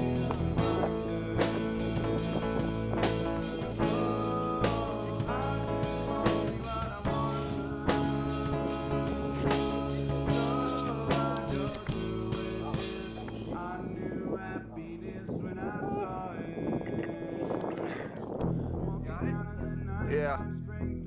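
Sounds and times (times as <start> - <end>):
indie rock song with singing: 0.0 - 21.0.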